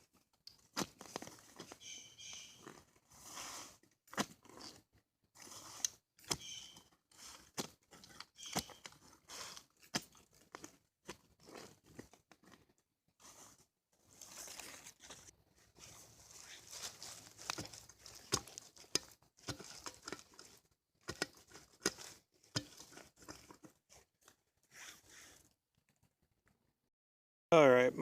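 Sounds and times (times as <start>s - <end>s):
soil and roots crunching: 0.0s - 25.6s.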